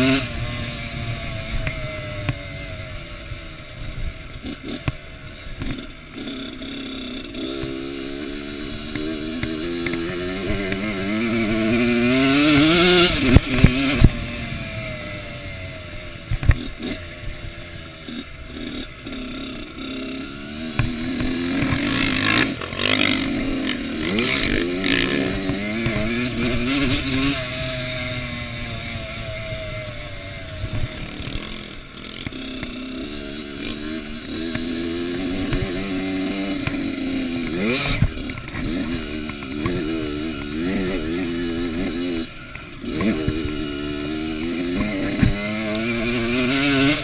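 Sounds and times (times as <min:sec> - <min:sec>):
motocross bike engine revving: 0:00.0 - 0:47.0.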